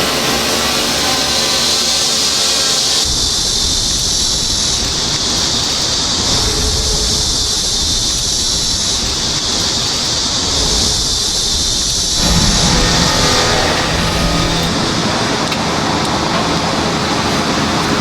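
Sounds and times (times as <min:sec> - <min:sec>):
metalworking hiss and crackle: 0:00.0 - 0:18.0.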